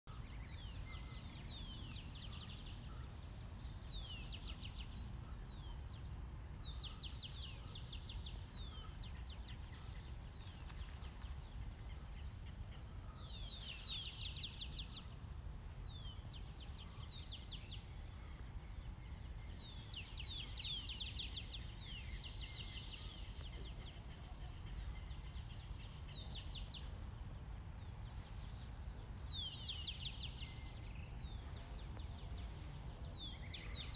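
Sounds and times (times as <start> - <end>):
swallows twittering: 0.1 - 33.9.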